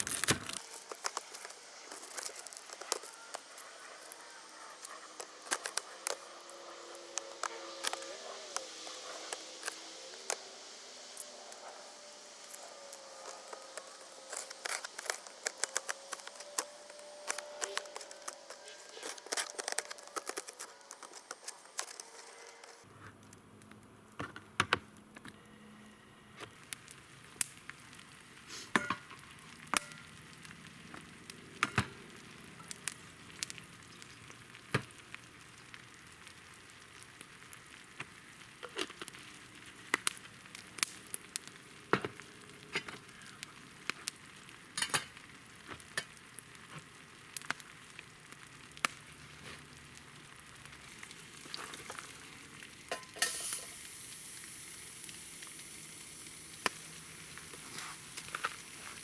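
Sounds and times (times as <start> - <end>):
food sizzling in a pan: 0.0 - 22.9, 25.8 - 59.0.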